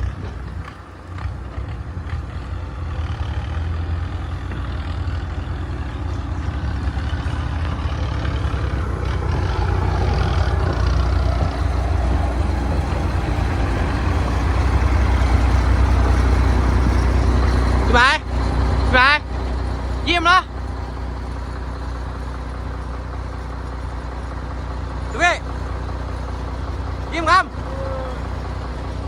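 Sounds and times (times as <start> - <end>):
heavy machinery engine rumbling: 0.0 - 29.0.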